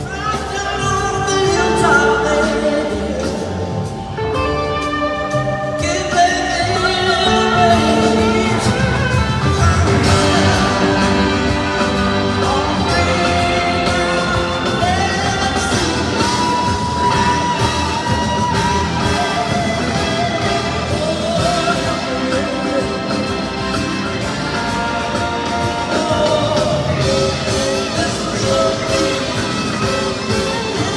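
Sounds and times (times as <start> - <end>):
drums: 0.0 - 30.9
electric guitars: 0.0 - 30.9.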